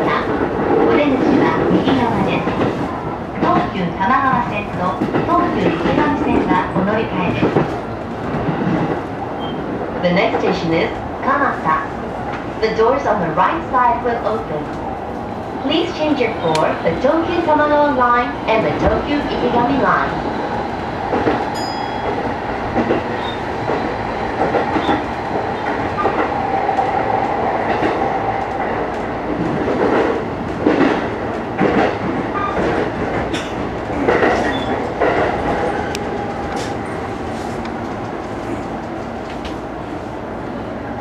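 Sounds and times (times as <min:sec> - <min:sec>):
train rumble and hum: 0:00.0 - 0:41.0.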